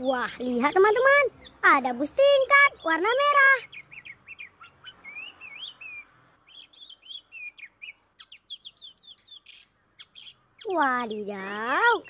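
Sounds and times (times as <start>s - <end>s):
small birds chirping and whistling: 0.0s - 12.0s.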